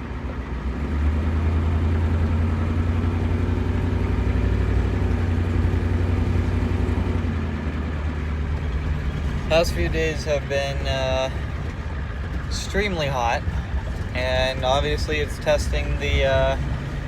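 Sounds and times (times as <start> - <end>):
truck engine driving off: 0.0 - 17.0.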